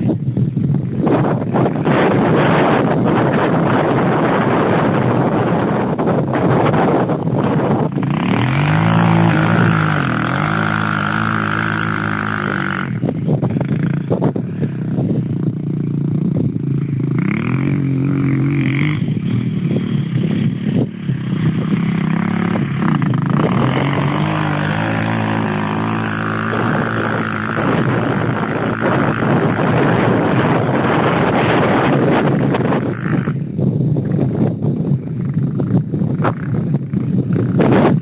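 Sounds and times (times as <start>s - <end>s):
dirt bike engine revving: 0.0s - 34.2s.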